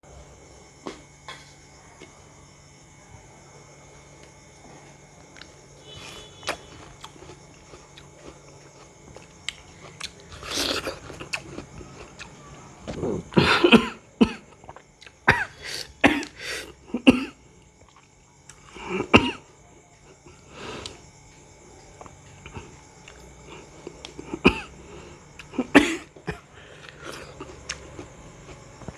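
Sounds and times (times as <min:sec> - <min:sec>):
crunchy fruit bites and chewing: 0:00.4 - 0:02.9, 0:03.9 - 0:28.9.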